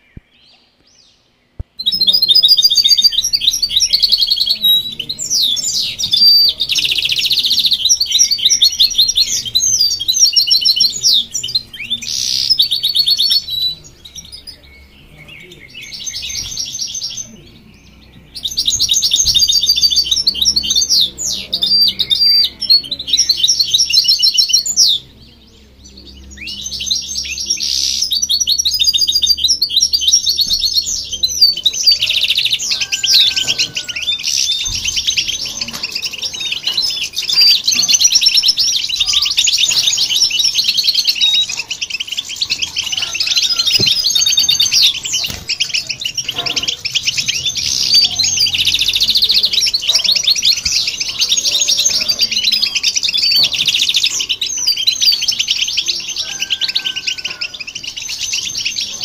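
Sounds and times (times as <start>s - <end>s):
finch twittering and trilling: 0.0s - 59.0s.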